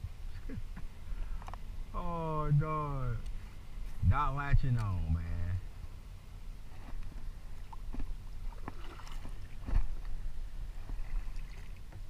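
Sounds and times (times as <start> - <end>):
water and wind rumble: 0.0 - 12.0.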